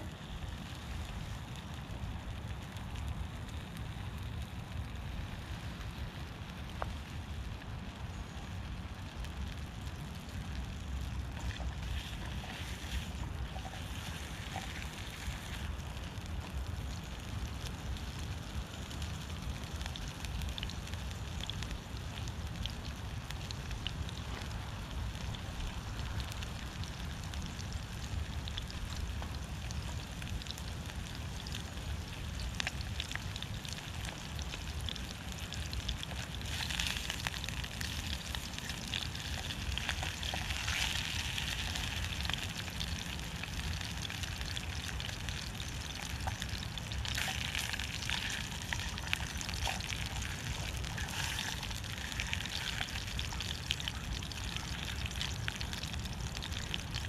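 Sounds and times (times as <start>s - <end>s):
wood fire crackling in a stove: 0.0s - 57.0s.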